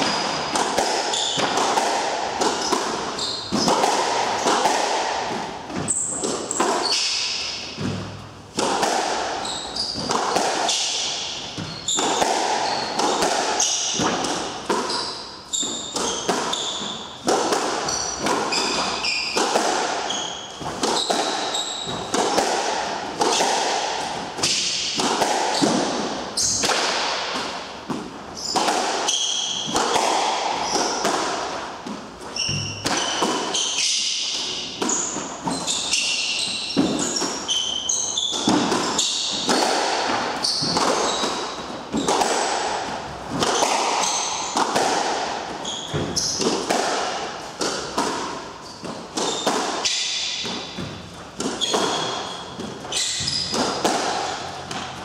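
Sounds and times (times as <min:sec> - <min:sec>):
sneakers squeaking on wooden floor: 0:00.0 - 0:08.4, 0:09.3 - 0:26.6, 0:28.4 - 0:31.1, 0:32.2 - 0:46.6, 0:47.6 - 0:55.0
squash ball cracking off rackets: 0:00.0 - 0:55.0.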